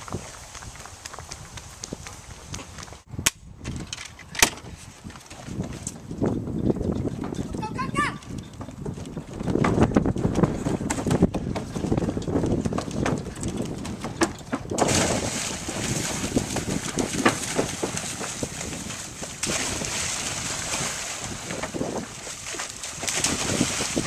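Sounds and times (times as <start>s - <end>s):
bare feet on wooden planks: 0.0s - 23.8s
wind buffeting microphone: 0.0s - 24.0s.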